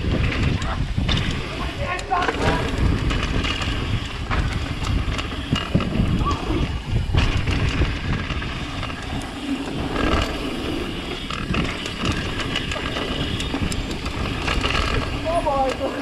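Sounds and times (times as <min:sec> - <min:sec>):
bike clicks and rattles: 0:00.0 - 0:16.0
tyres rolling over dirt: 0:00.0 - 0:16.0
wind rumbling on microphone: 0:00.0 - 0:16.0.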